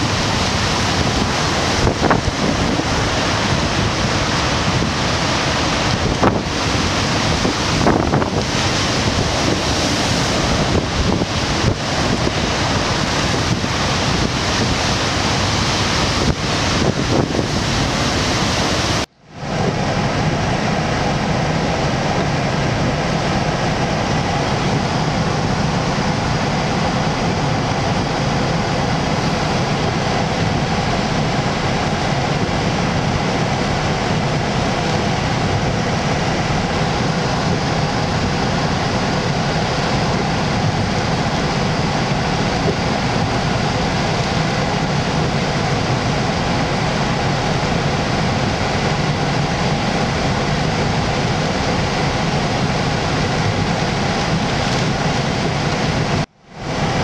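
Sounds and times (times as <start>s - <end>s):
heavy surf breaking on rocks: 0.0s - 57.0s
strong wind: 0.0s - 57.0s.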